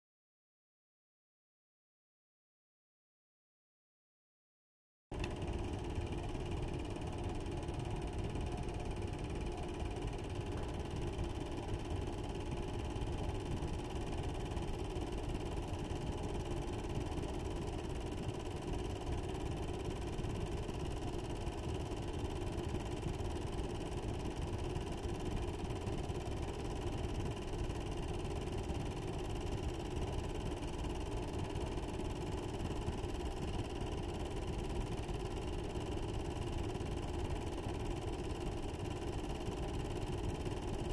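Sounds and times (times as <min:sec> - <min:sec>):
constant hum: 0:05.2 - 0:40.9.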